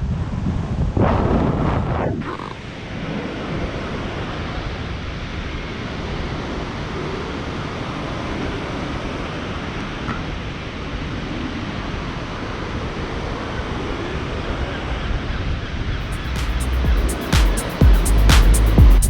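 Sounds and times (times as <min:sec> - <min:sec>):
wind rushing over microphone: 0:00.0 - 0:17.2.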